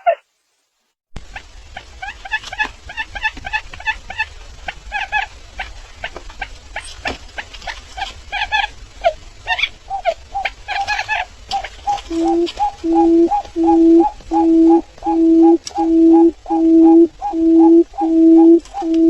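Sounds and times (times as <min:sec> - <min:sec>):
low steady hum: 0:01.2 - 0:19.0.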